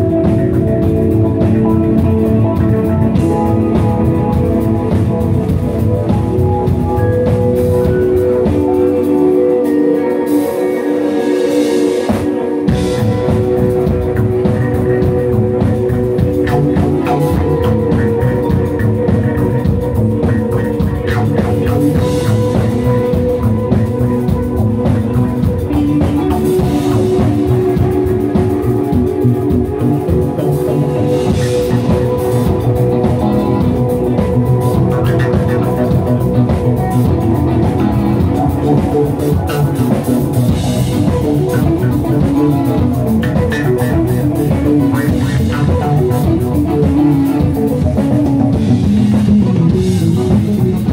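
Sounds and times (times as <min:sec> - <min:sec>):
bass guitar: 0:00.0 - 0:50.9
drum kit: 0:00.0 - 0:50.9
electric guitars: 0:00.0 - 0:50.9
keyboard chords: 0:00.0 - 0:50.9.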